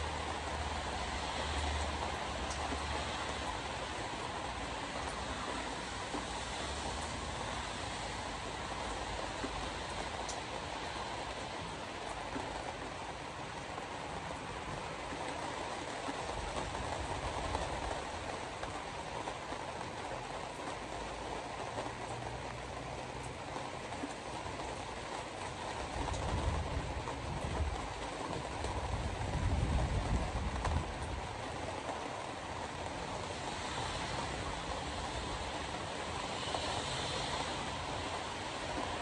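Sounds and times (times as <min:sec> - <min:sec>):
road and tyre noise: 0:00.0 - 0:39.0.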